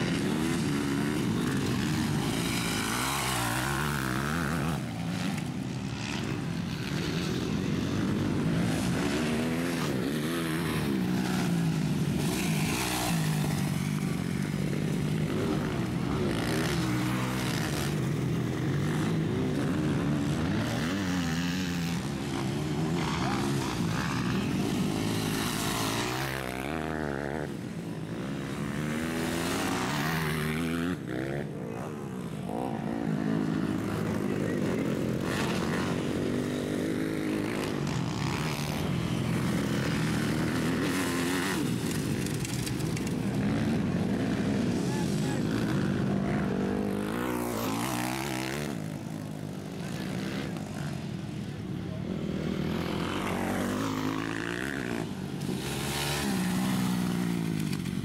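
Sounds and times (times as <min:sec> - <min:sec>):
motocross bike engines revving: 0:00.0 - 0:58.0.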